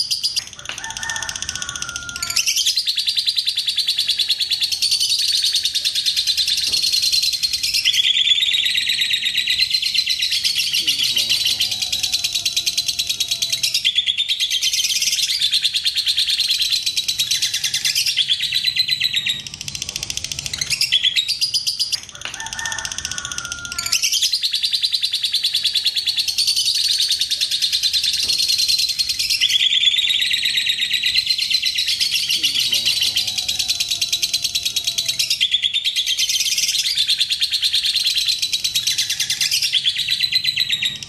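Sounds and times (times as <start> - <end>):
lovebirds chattering trills: 0.0 - 41.0.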